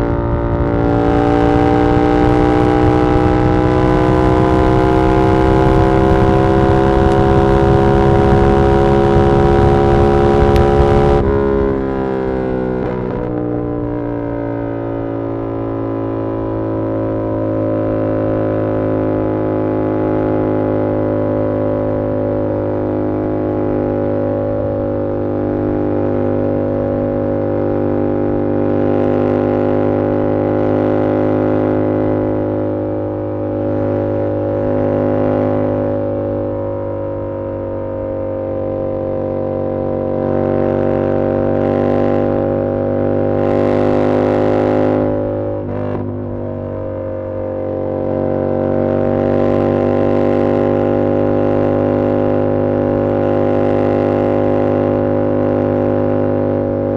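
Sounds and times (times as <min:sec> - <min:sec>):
motorcycle engine cruising: 0:00.0 - 0:56.9.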